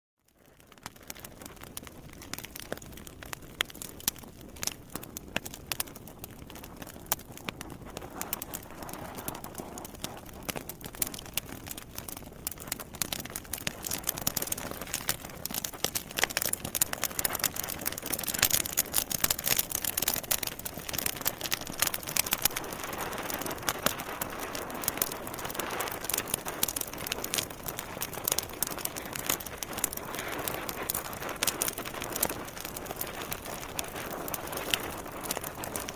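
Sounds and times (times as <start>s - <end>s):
campfire crackling and popping: 0.2s - 35.9s
hiss of flames: 4.1s - 35.9s.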